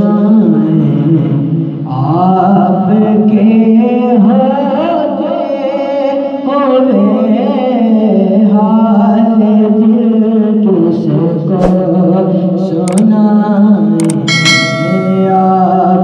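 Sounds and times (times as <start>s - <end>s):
man singing devotional melody: 0.0s - 16.0s.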